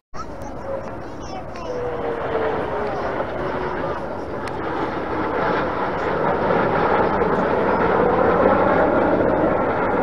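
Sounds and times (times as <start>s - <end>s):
aircraft flying overhead: 0.2s - 10.0s.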